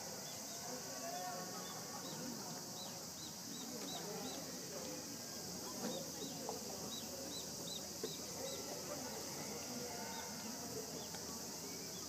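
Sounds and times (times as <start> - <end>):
faint distant voices: 0.0 - 12.0
steady high hiss: 0.0 - 12.0.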